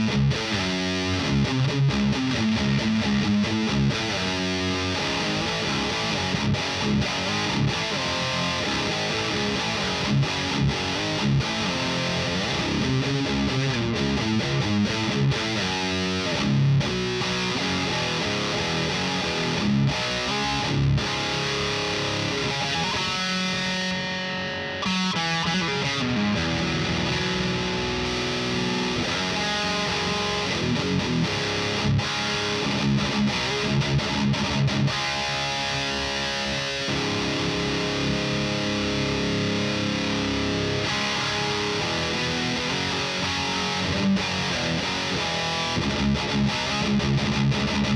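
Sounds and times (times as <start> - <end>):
distorted electric guitar riffing: 0.0 - 47.9.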